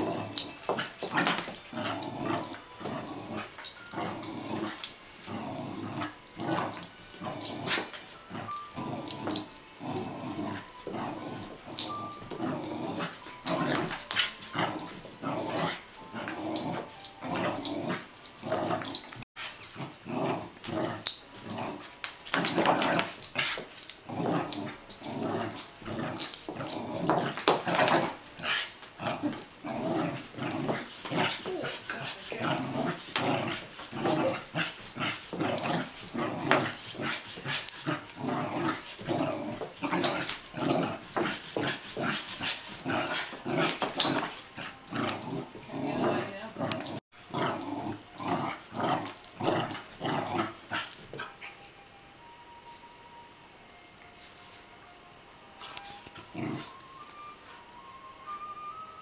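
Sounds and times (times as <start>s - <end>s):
dog growling in play: 0.0s - 51.7s, 55.6s - 56.8s.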